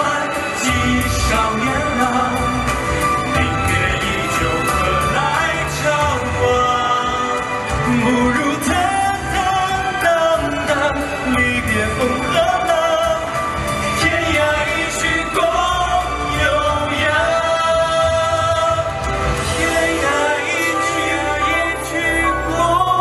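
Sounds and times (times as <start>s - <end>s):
man singing into a microphone: 0.0s - 23.0s
pop ballad backing track: 0.0s - 23.0s.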